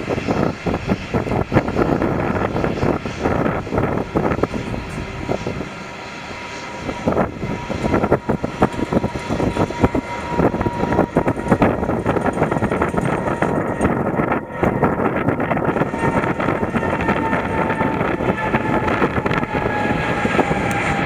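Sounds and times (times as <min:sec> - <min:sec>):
faint jet engine whine: 0:00.0 - 0:21.0
jet engines roaring with crackle: 0:00.0 - 0:21.0.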